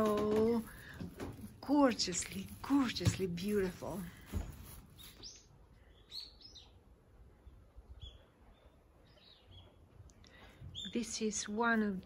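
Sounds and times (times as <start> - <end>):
small birds chirping: 1.7 - 12.0.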